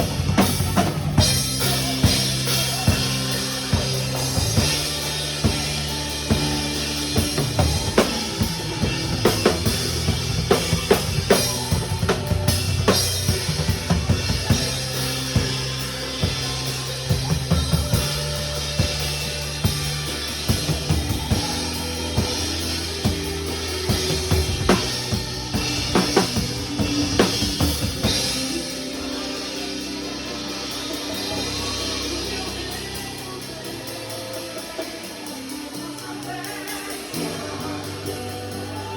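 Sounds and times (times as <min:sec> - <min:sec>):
drum kit playing: 0:00.0 - 0:38.9
gospel worship song: 0:00.0 - 0:38.9.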